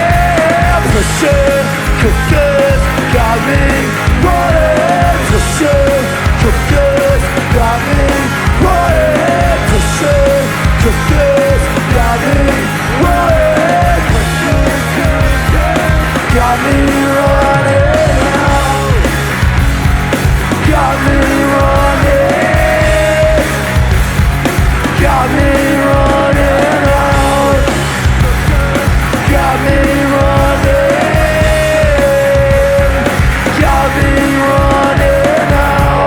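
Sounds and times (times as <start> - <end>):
punk rock band playing: 0.0 - 36.0.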